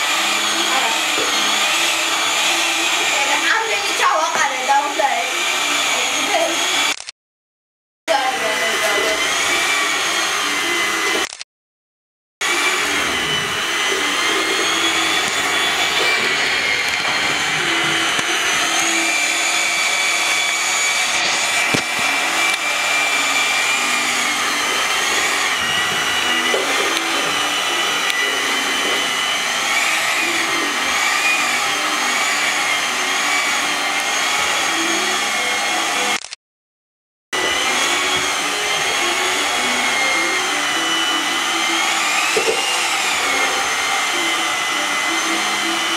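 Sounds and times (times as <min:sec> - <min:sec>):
electric hand mixer whirring: 0:00.0 - 0:07.1, 0:08.1 - 0:11.4, 0:12.4 - 0:36.4, 0:37.4 - 0:45.9.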